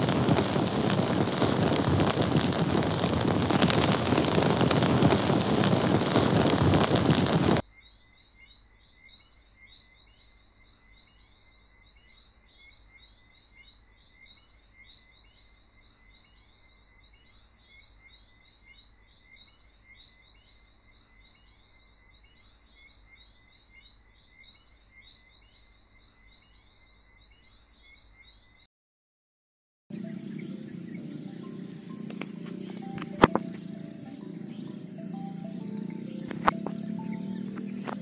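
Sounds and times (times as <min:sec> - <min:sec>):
insects chirping: 0:00.0 - 0:28.6, 0:29.9 - 0:38.0.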